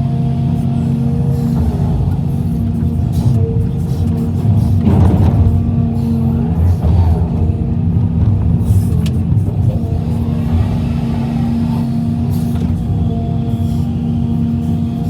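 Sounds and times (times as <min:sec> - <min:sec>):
diesel machinery engine rumbling: 0:00.0 - 0:15.0.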